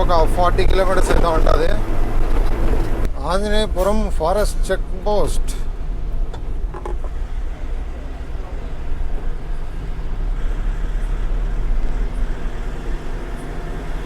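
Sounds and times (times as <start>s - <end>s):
road noise: 0.0s - 14.0s
truck engine drone: 0.0s - 14.0s.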